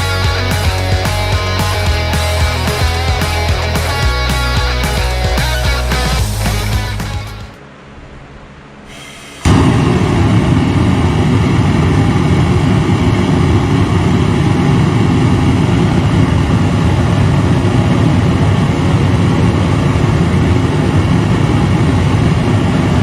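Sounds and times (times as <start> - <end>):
gas burner roaring: 0.0 - 23.0.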